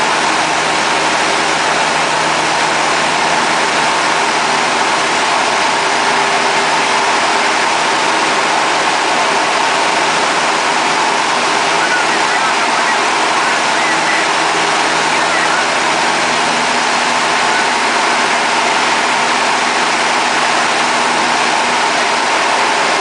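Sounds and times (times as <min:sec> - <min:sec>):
aircraft engine and propeller: 0:00.0 - 0:23.0.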